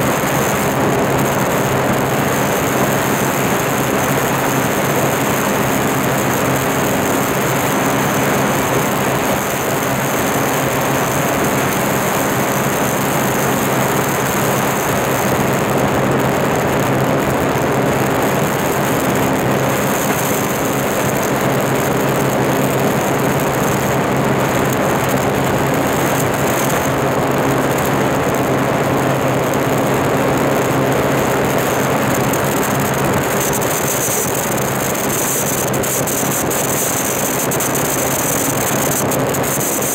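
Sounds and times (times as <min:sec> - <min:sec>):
watercraft engine running: 0:00.0 - 0:39.9.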